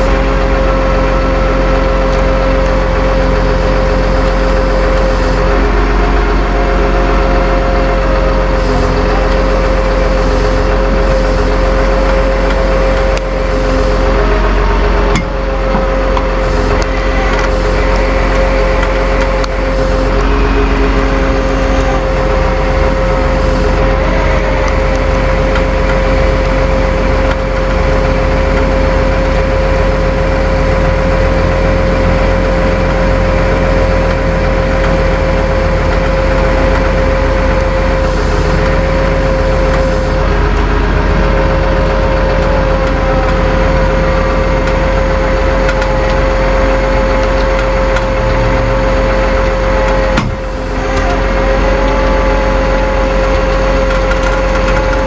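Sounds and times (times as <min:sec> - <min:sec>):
hydraulic winch whine: 0:00.0 - 0:55.0
truck engine running: 0:00.0 - 0:55.0.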